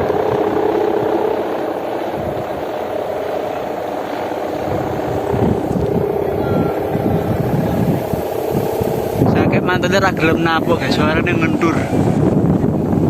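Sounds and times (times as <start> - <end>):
kite hummer droning: 0.0 - 13.0
wind buffeting microphone: 0.0 - 13.0.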